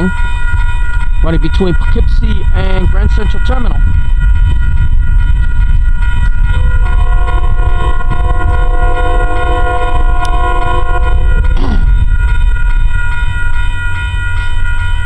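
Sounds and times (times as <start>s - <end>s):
train horn chord: 0.0s - 15.0s
train passing with low rumble: 0.0s - 15.0s.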